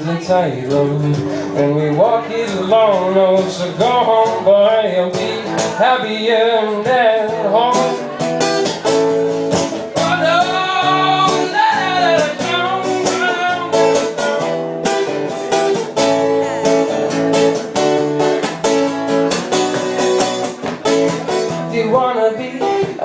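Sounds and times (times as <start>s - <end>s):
guitar strumming: 0.0s - 23.0s.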